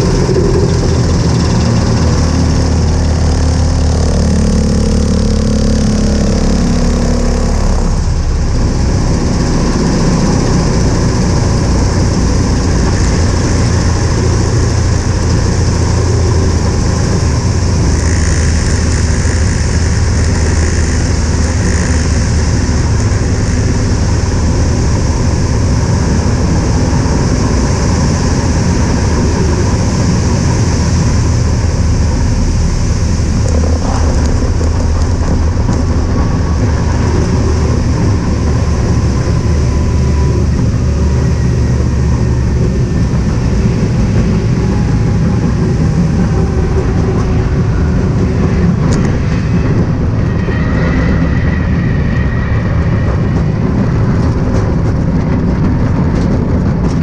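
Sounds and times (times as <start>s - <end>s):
race plane engine rumble: 0.0s - 57.0s.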